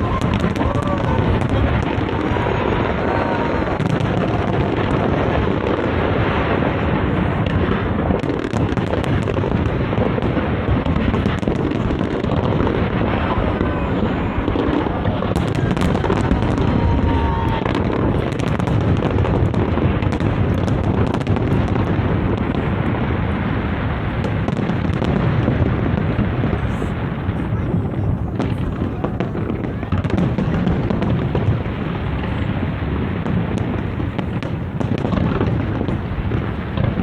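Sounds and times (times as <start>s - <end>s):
fireworks booming: 0.0s - 37.0s
fireworks crackling: 0.0s - 37.0s.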